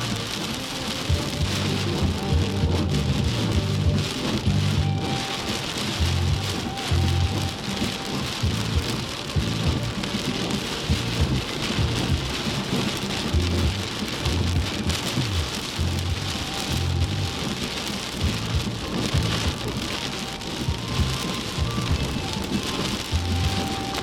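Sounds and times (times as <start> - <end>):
low irregular rumbling: 0.0 - 23.8
heavy rain pouring: 0.0 - 24.0
low thuds: 1.1 - 24.0.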